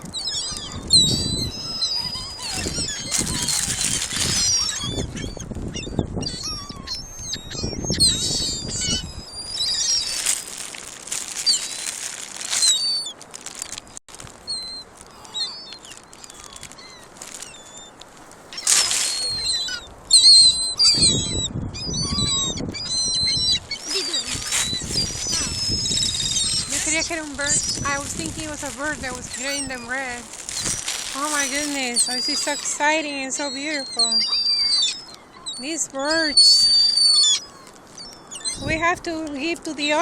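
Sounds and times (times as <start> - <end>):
gulls calling: 0.0 - 40.0.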